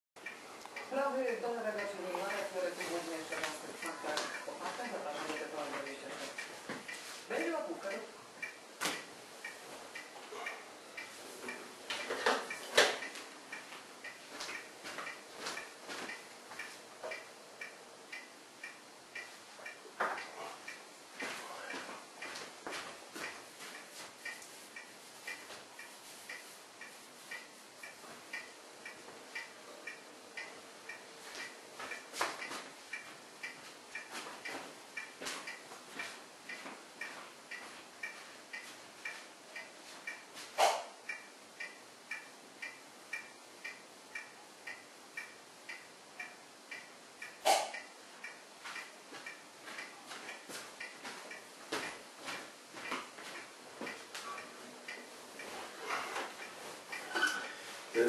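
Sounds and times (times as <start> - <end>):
regular ticking: 0.2 - 58.0.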